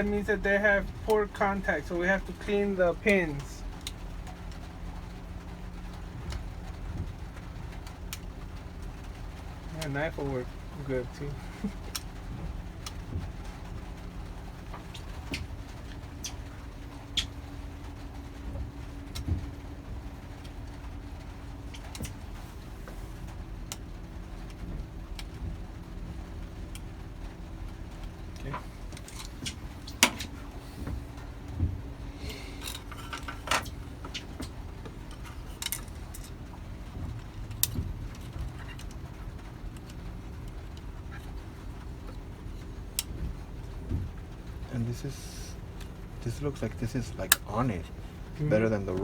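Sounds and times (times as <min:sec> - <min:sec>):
faint steady hum: 0:00.0 - 0:49.0
low steady rumble: 0:00.0 - 0:49.0.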